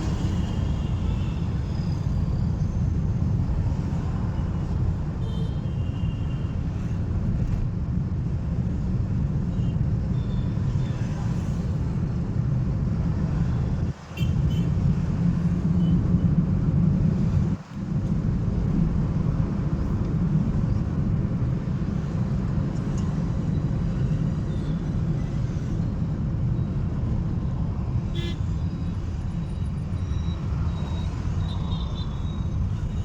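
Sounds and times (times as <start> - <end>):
car driving on road: 6.4 - 33.0.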